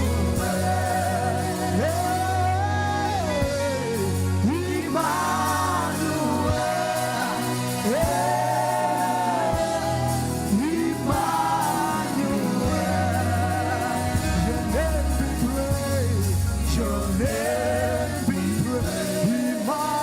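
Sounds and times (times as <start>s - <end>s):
steady bass accompaniment: 0.0s - 20.0s
voices singing gospel: 0.0s - 20.0s.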